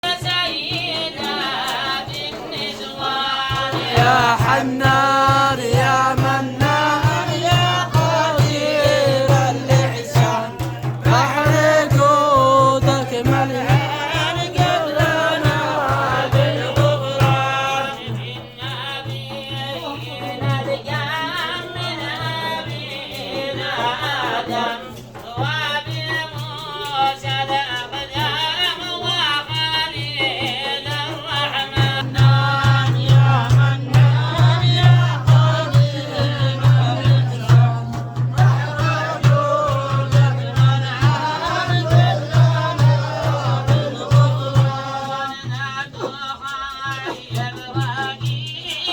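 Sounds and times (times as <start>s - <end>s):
person chanting a melody: 0.0s - 24.8s, 31.7s - 46.2s.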